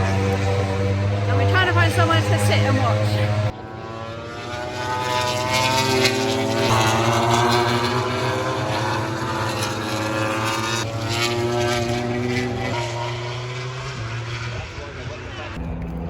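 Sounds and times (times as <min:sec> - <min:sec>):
race bike engines droning: 0:00.0 - 0:16.0.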